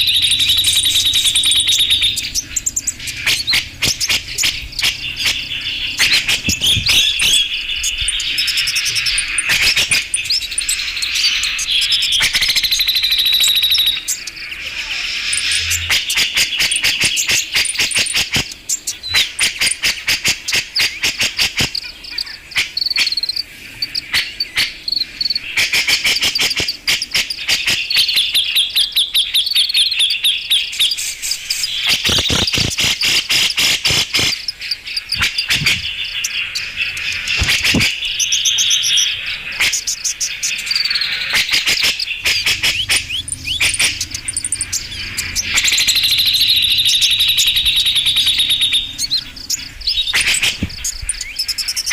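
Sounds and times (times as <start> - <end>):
bulbul chattering and trilling: 0.0 - 51.9.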